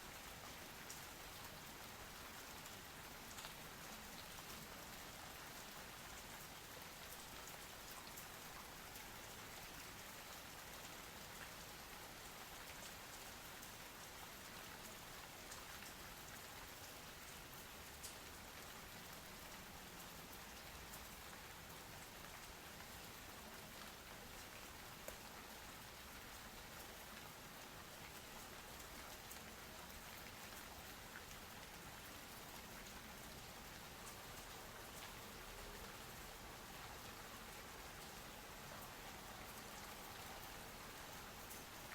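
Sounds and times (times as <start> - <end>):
faint rain falling: 0.0 - 41.9.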